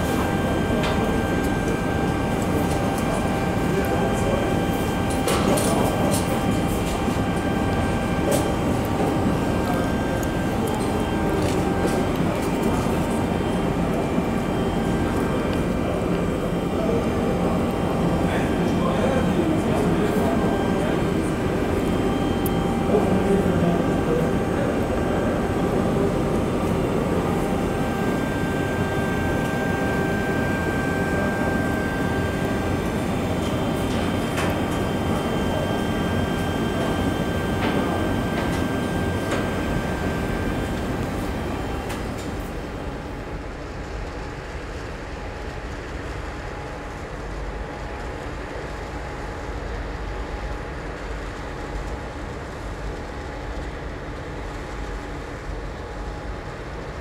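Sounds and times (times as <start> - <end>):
industrial machinery drone: 0.0 - 57.0.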